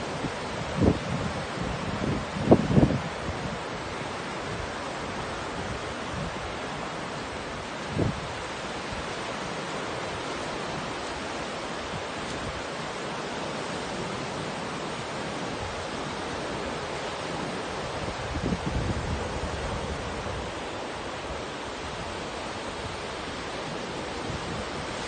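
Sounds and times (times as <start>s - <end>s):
small surf on sandy beach: 0.0s - 25.0s.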